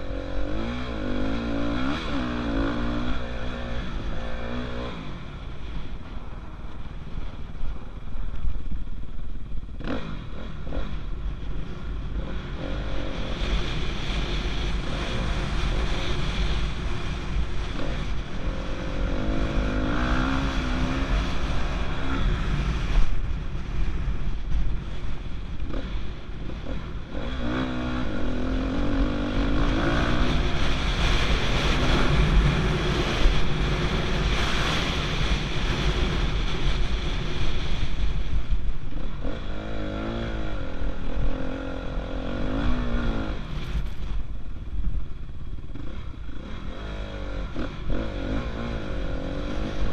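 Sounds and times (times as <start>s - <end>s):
dirt bike engine revving: 0.0s - 5.4s, 9.8s - 23.1s, 25.5s - 38.0s, 38.9s - 44.2s, 45.5s - 49.9s
wind on microphone: 0.0s - 49.9s.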